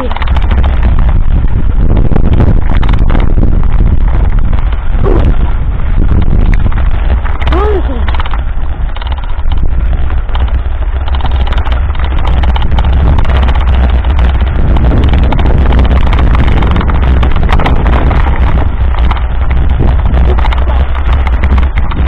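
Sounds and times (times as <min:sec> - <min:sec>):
bike rattling over dirt track: 0:00.0 - 0:22.0
wind rumble on microphone: 0:00.0 - 0:22.0.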